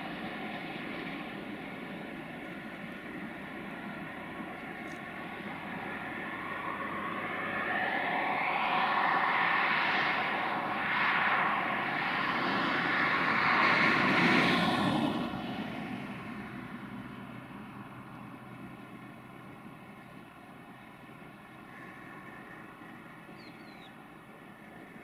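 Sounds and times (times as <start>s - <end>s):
diesel locomotive engines droning: 0.0s - 25.0s.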